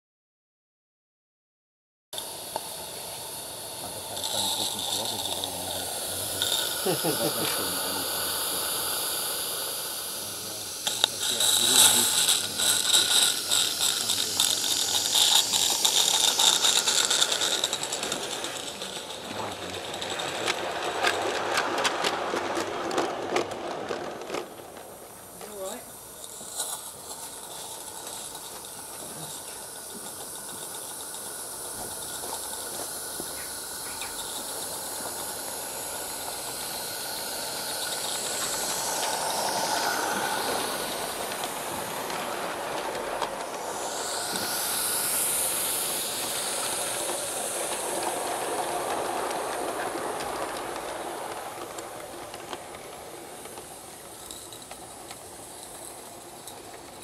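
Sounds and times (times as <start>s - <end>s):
steam hissing: 2.2s - 57.0s
wheels running on track: 2.2s - 57.0s.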